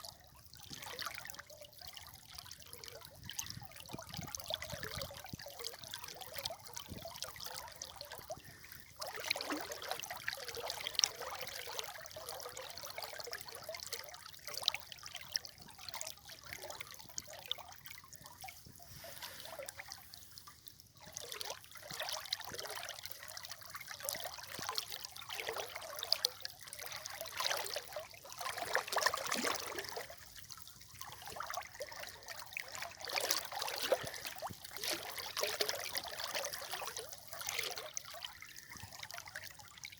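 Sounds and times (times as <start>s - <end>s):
river water trickling: 0.0s - 39.9s.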